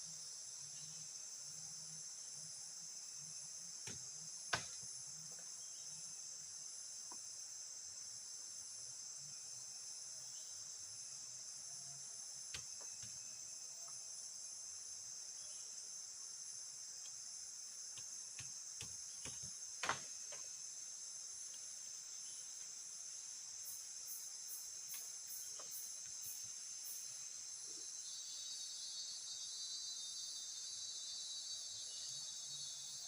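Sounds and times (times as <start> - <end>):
insect chirping: 0.0 - 33.0
insects chorus: 0.0 - 33.0.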